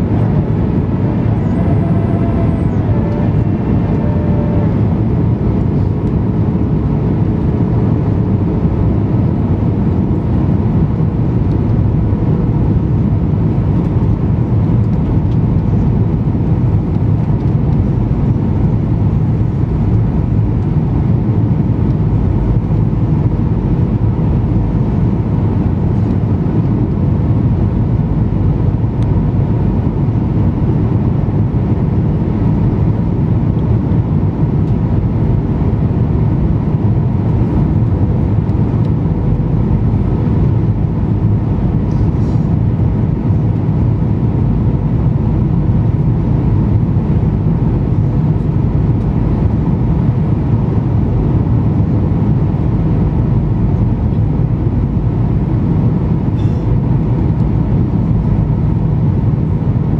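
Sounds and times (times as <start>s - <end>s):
airplane cabin roar: 0.0s - 59.9s.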